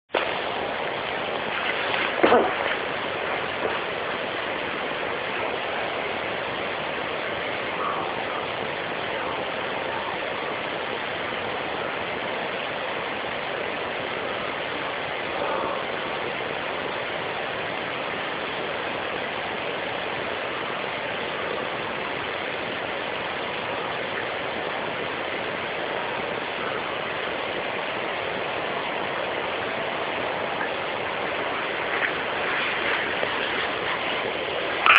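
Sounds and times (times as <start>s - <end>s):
steady rushing noise: 0.1s - 34.9s.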